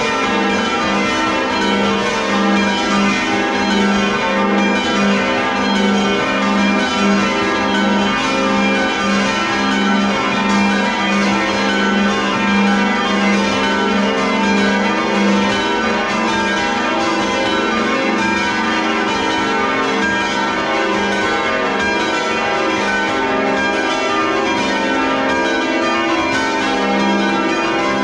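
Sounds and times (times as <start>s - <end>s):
church bells ringing: 0.0s - 28.0s.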